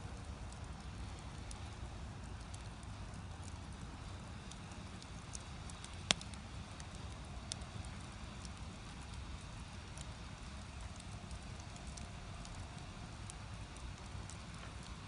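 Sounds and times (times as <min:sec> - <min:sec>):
firewood crackling: 0:00.0 - 0:15.0
low rumble of fire: 0:00.0 - 0:15.0.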